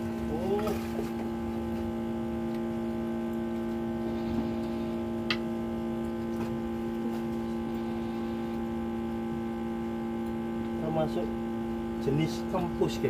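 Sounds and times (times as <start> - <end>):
steady multi-tone hum: 0.0 - 13.0.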